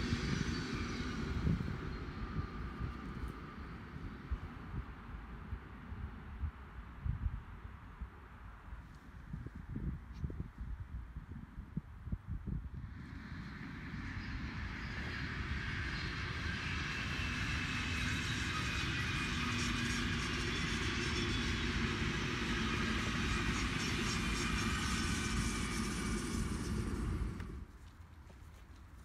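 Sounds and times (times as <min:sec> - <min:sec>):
wheels rumbling on rail: 0:00.0 - 0:07.9, 0:12.2 - 0:29.0
faint train whine: 0:00.0 - 0:29.0.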